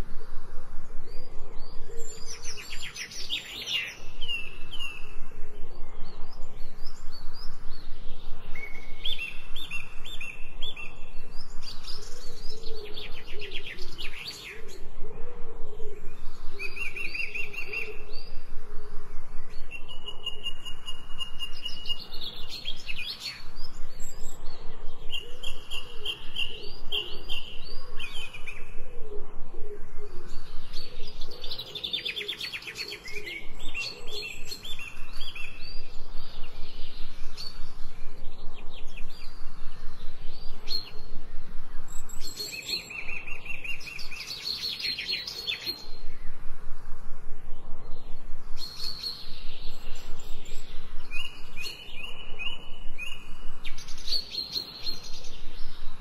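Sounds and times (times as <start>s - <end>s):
songbirds chirping and singing: 0.0s - 46.8s, 47.6s - 56.0s.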